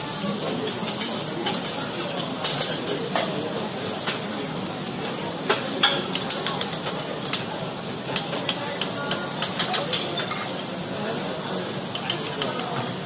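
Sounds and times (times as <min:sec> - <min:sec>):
food sizzling on a hot plate: 0:00.0 - 0:13.0.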